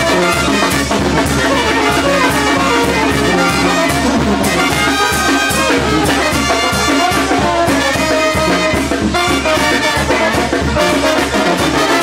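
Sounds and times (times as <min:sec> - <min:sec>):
brass band playing: 0:00.0 - 0:12.0
trumpets and trombones: 0:00.0 - 0:12.0.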